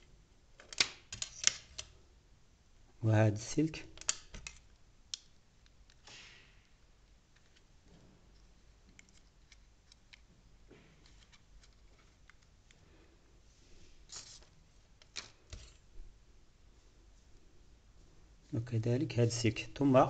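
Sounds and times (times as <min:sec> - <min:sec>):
wires rustling: 0:00.0 - 0:02.1, 0:03.5 - 0:18.6.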